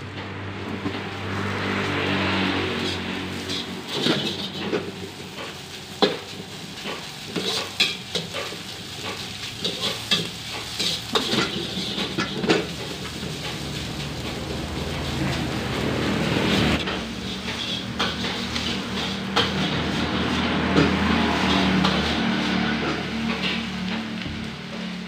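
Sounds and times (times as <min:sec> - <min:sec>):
rice sizzling in oil: 0:00.7 - 0:25.0.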